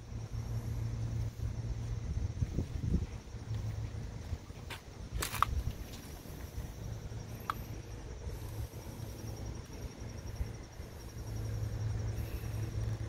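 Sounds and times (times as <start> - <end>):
high-pitched insect trill: 0.0 - 4.3, 4.9 - 13.0
low rumble of approaching vehicle: 0.0 - 13.0.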